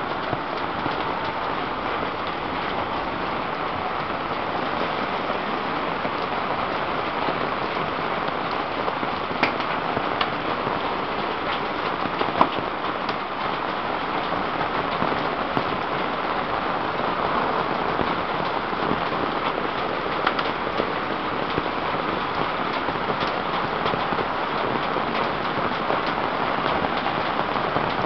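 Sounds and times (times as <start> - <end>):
heavy rain on metal roof: 0.0 - 28.0.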